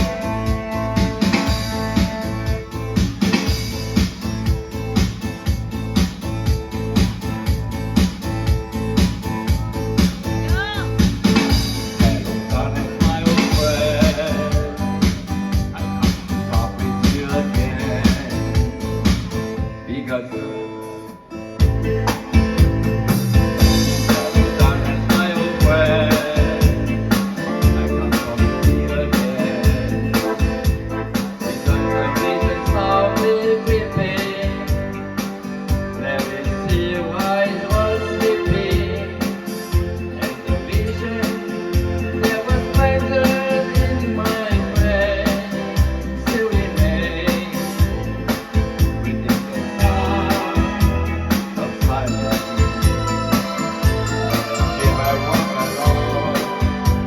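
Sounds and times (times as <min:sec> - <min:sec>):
deep bass line: 0:00.0 - 0:19.9, 0:21.6 - 0:57.0
music with steady beat: 0:00.0 - 0:20.1, 0:20.7 - 0:57.0
keyboard chords: 0:00.0 - 0:57.0.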